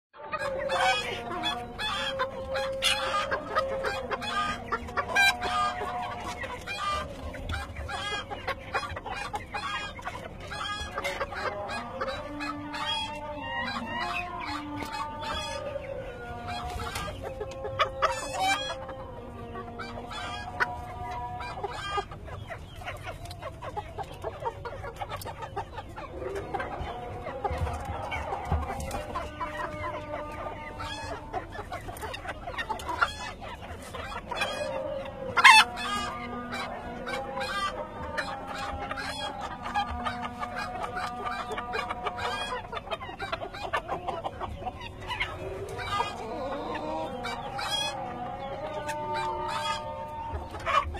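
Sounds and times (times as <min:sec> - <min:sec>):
chickens clucking: 0:00.2 - 0:50.9.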